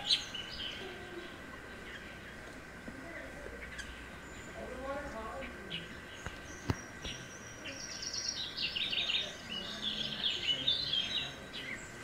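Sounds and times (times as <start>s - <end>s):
small bird singing: 0.0s - 12.0s.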